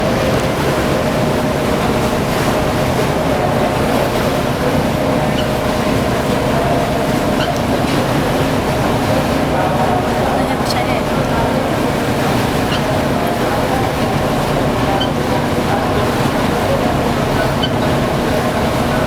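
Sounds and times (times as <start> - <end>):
boat engine drone: 0.0 - 19.0
water noise: 0.0 - 19.0.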